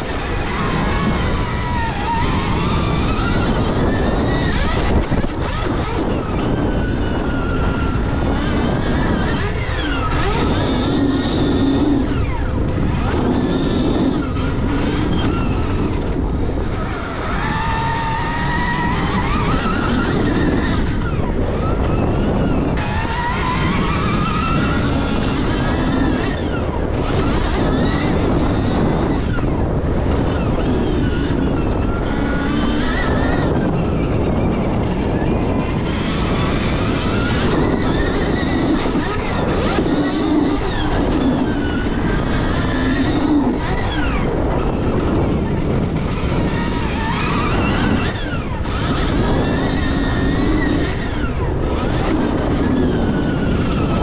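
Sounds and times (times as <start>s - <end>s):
electric motorbike motor whine: 0.0s - 54.0s
wind noise on microphone: 0.0s - 54.0s.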